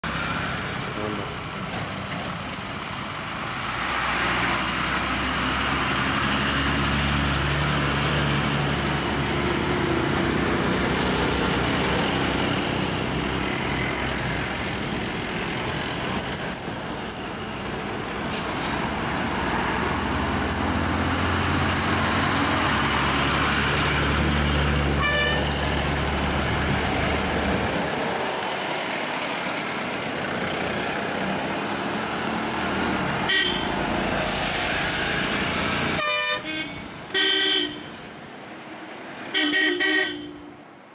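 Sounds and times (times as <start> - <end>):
bus diesel engines droning: 0.0 - 40.9.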